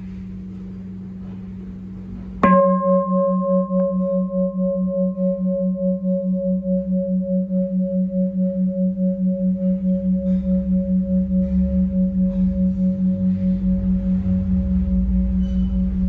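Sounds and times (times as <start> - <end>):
bowl bell struck and ringing: 0.0 - 16.0.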